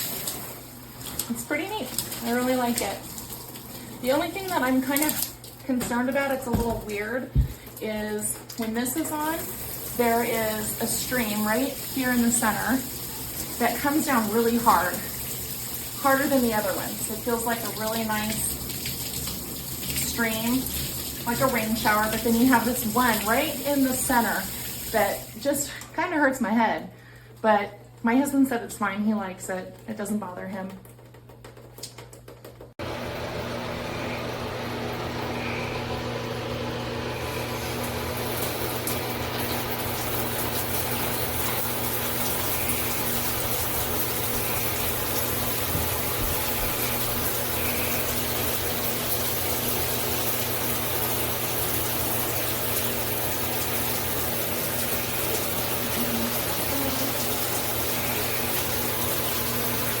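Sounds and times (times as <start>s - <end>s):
shower water spraying: 0.0s - 25.4s, 32.8s - 60.0s.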